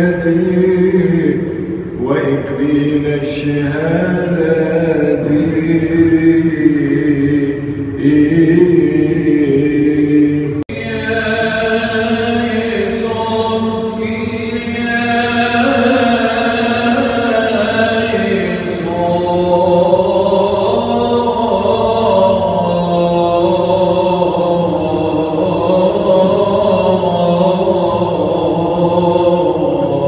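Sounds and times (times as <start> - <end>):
unaccompanied liturgical chant: 0.0 - 30.0.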